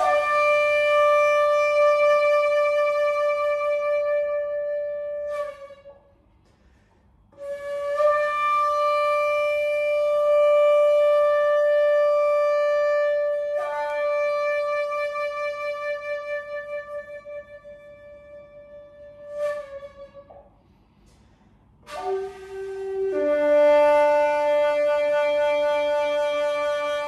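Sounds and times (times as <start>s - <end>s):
bamboo flute long notes: 0.0s - 6.1s, 7.4s - 20.5s, 21.8s - 27.0s.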